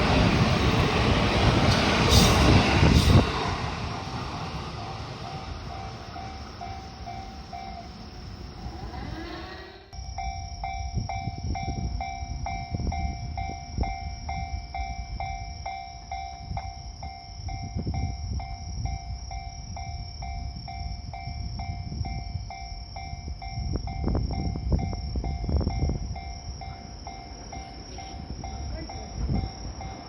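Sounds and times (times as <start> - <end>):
passing train rumble and clatter: 0.0 - 30.0
level-crossing warning bell: 4.6 - 8.7, 9.9 - 30.0.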